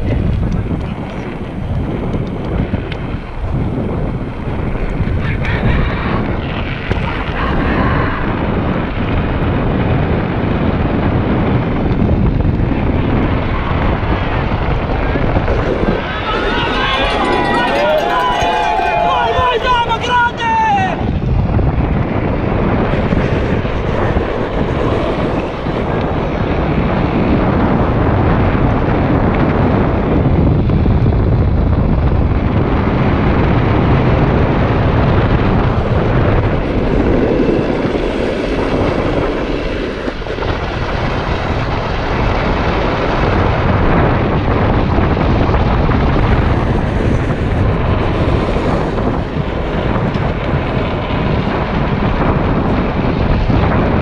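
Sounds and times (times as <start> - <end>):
wheels rumbling on asphalt: 0.0 - 54.0
wind buffeting microphone: 0.0 - 54.0.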